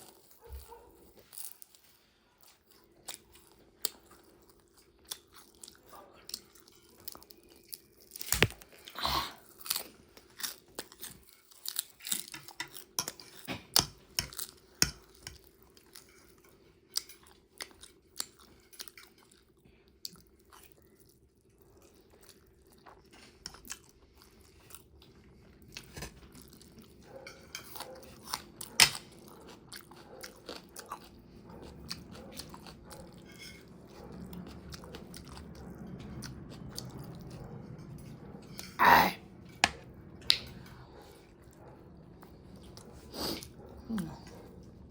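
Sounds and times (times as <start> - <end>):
crunchy chewing of food: 0.0 - 44.9.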